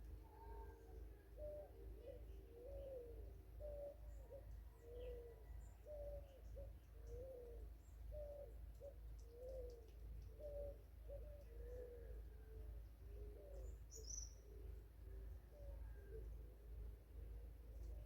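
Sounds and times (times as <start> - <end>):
bird low cooing: 0.0 - 18.0.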